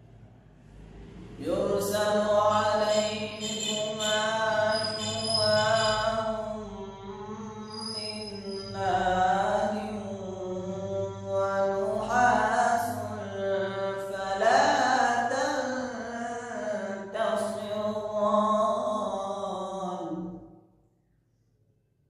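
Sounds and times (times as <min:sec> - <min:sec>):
person chanting slow melody: 0:00.8 - 0:20.4.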